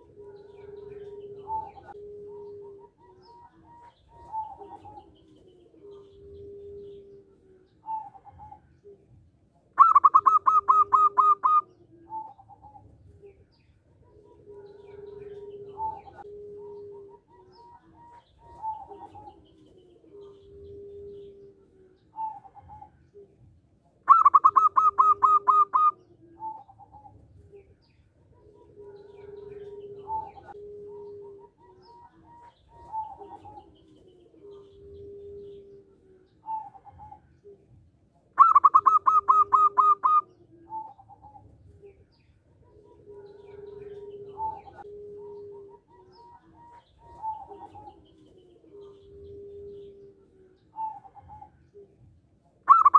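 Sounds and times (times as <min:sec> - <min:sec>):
dove cooing song: 0:00.0 - 0:52.9
soft low coos and calls: 0:00.0 - 0:52.9.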